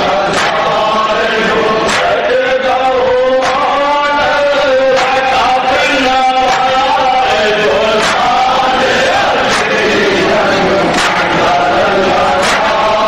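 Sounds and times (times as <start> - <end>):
crowd beating chests: 0.0 - 13.0
men chanting in unison: 0.0 - 13.0.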